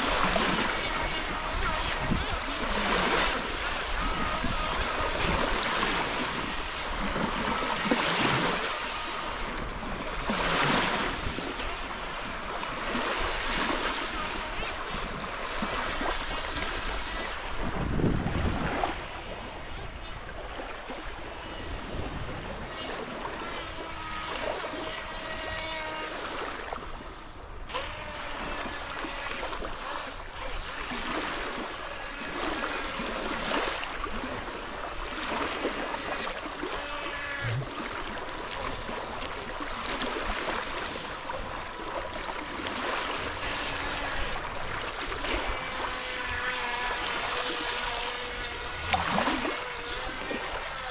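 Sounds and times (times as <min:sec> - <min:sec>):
small waves lapping on pebbles: 0:00.0 - 0:50.9.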